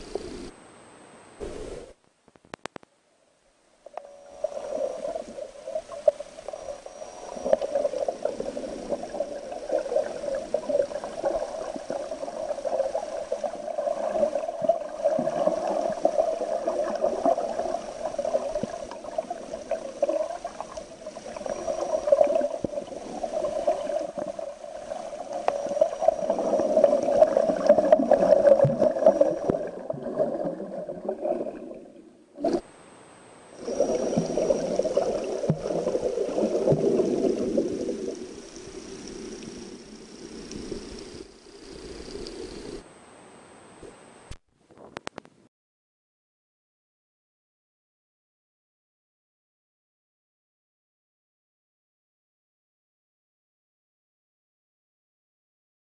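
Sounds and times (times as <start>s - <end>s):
muffled underwater water noise: 0.0s - 45.5s.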